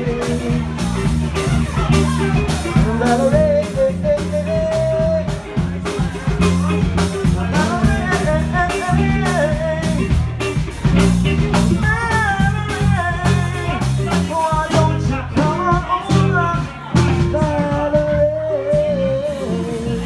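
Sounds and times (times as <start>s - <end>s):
person singing: 0.0s - 10.6s, 11.5s - 20.0s
band playing upbeat pop-soul: 0.0s - 20.0s.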